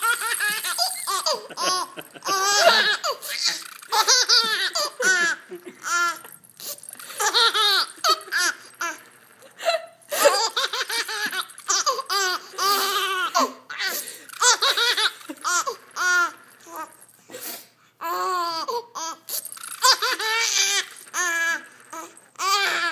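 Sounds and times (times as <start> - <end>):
baby laughing: 0.0 - 6.3, 7.0 - 9.0, 9.6 - 16.8, 18.4 - 21.6.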